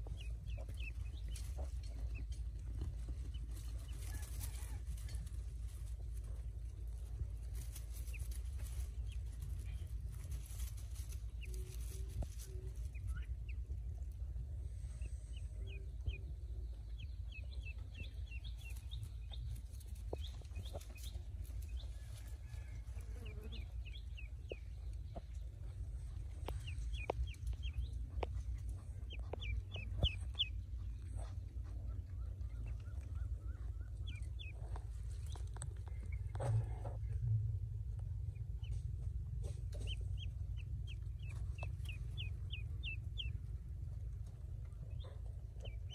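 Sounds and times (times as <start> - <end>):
ducklings peeping: 0.0 - 45.9
steady low rumble: 0.0 - 45.9.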